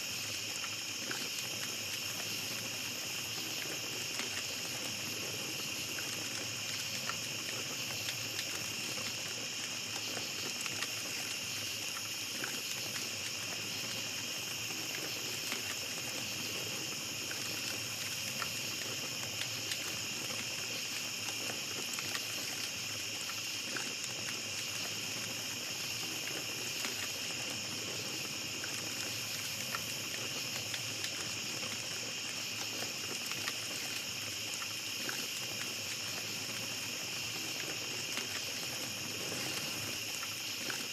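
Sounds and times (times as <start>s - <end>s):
night insects chorus: 0.0s - 40.9s
small campfire crackling: 0.0s - 40.9s.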